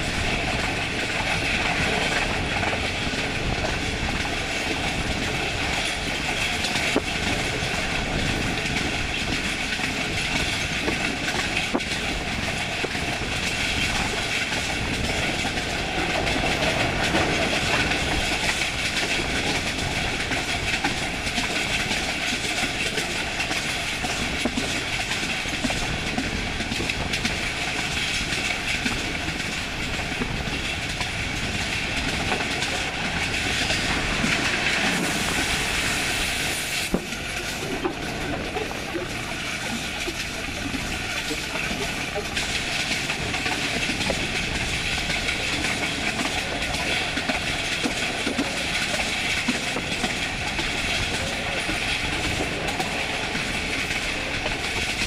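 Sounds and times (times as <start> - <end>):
train wheels clattering over rail joints: 0.0 - 55.0
wind rush and running noise: 0.0 - 55.0.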